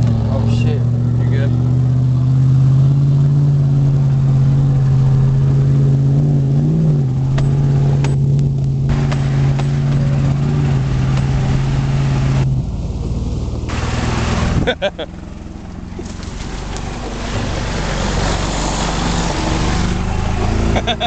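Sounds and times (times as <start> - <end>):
pickup truck engine running: 0.0 - 21.0.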